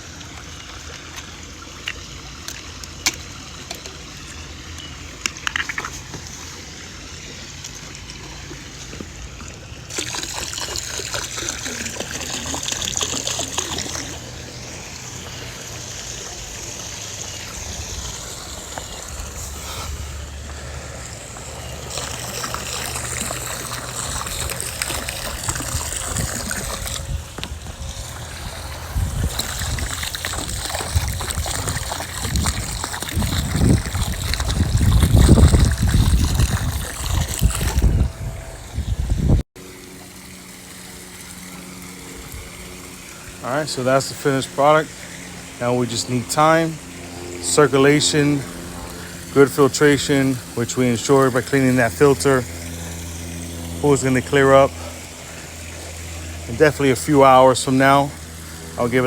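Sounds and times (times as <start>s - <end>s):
water splashing and trickling: 0.0s - 59.0s.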